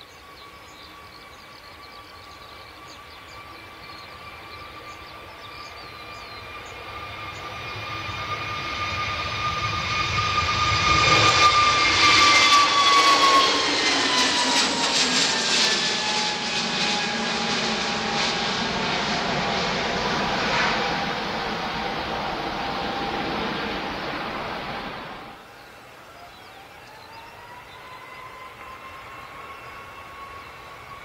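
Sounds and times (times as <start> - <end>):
jet engine whine: 0.0 - 31.0
jet taking off: 0.0 - 31.0.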